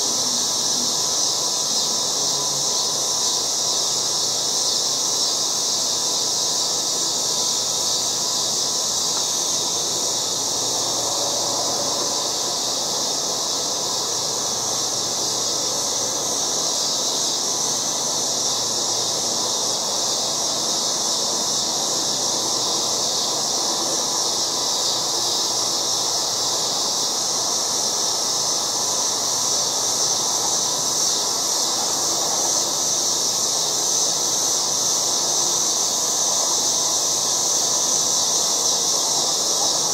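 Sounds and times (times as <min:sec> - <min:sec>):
cicadas buzzing: 0:00.0 - 0:39.9
low background noise: 0:00.0 - 0:39.9.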